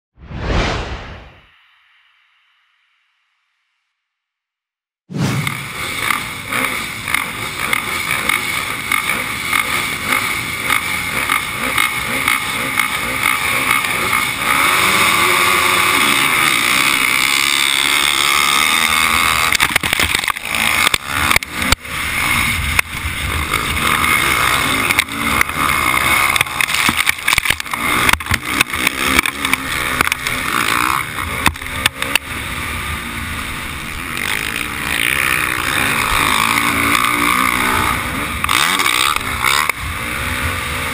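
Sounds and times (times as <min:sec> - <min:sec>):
motocross engine revving high: 0:05.1 - 0:40.9.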